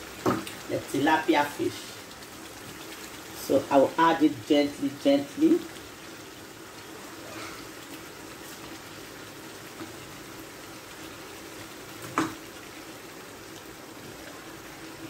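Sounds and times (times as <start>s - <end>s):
stew simmering with bubbling hiss: 0.0s - 15.0s.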